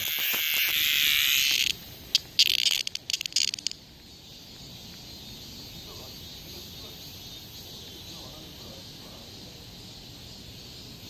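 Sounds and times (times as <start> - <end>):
cicada buzzing: 0.0 - 11.0
faint insect noise: 0.0 - 11.0.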